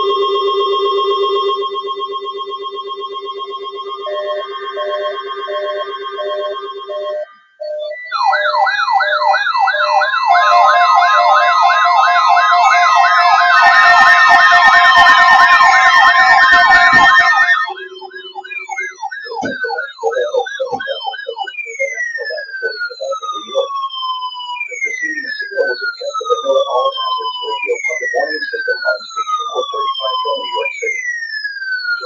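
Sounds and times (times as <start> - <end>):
electronic siren yelp: 0.0 - 32.0
siren sliding sweeps: 0.0 - 32.0.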